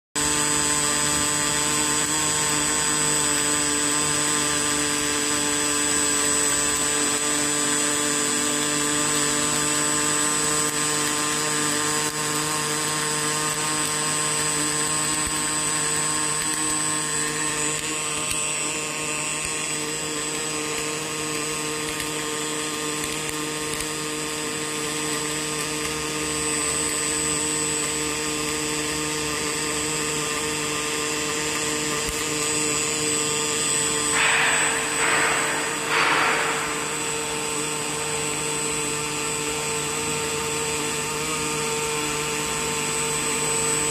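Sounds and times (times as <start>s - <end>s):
welding arc buzzing: 0.2s - 43.9s.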